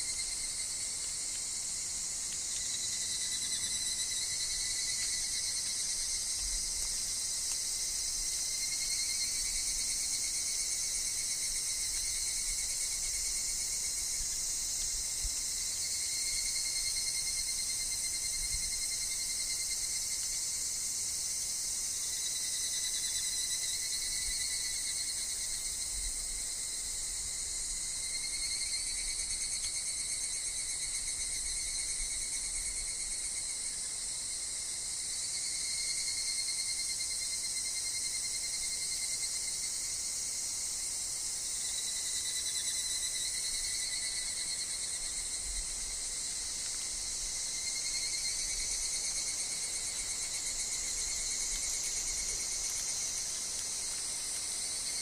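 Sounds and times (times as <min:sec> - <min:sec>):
cicadas and insects calling: 0:00.0 - 0:55.0.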